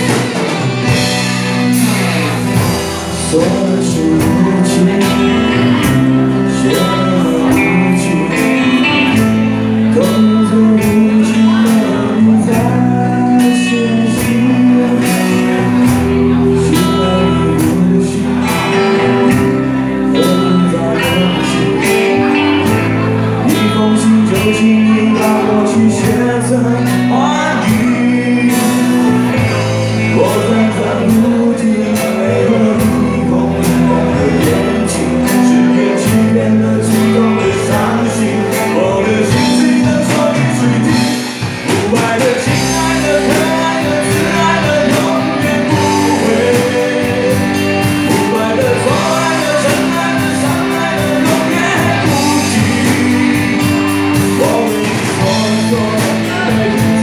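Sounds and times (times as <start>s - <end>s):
man singing: 0.0s - 57.0s
steady drum beat: 0.0s - 57.0s
sustained bass: 0.0s - 57.0s.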